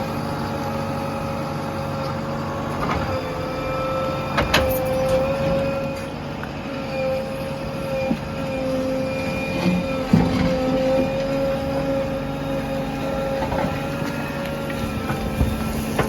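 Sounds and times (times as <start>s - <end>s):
diesel engine whining under load: 0.0s - 16.0s.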